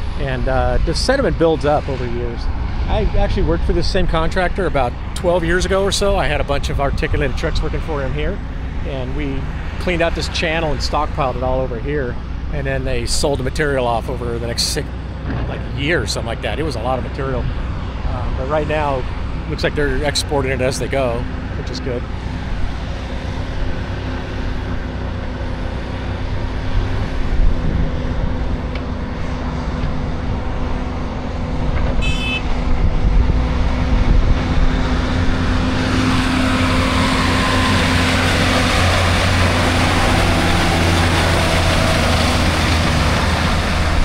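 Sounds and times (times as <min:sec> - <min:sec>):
dump truck passing close: 0:00.0 - 0:44.0
heavy diesel engines running: 0:00.0 - 0:44.0.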